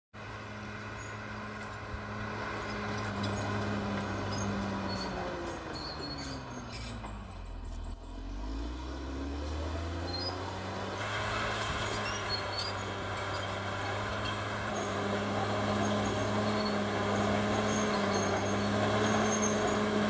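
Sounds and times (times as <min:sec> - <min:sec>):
bulldozer diesel engine running: 0:00.2 - 0:20.0.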